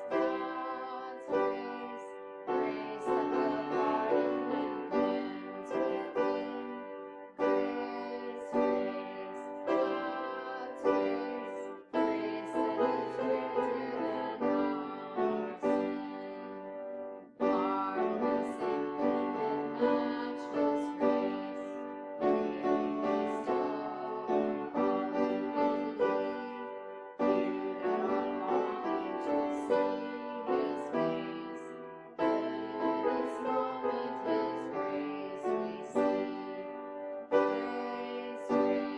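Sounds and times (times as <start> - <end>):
slow piano piece: 0.0 - 38.9.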